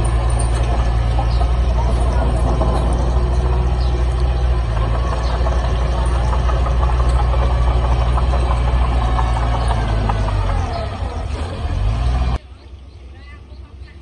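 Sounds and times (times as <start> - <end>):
heavy diesel engine droning: 0.0 - 14.0.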